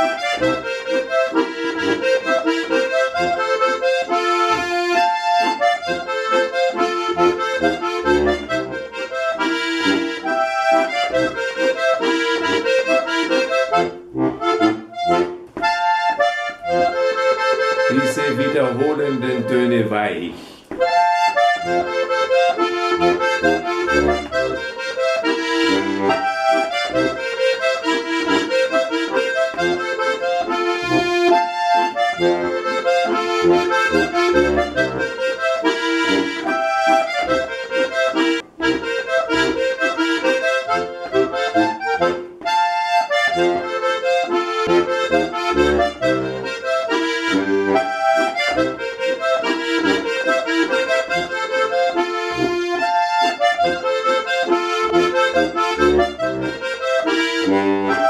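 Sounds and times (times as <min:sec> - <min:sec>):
button accordion playing waltz: 0:00.0 - 0:58.0.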